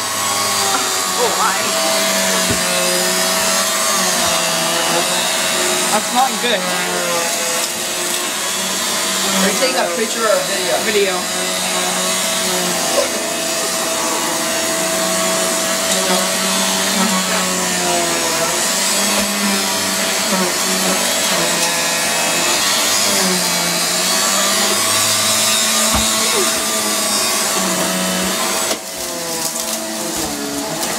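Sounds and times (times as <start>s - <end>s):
vacuum cleaner whine: 0.0s - 30.9s.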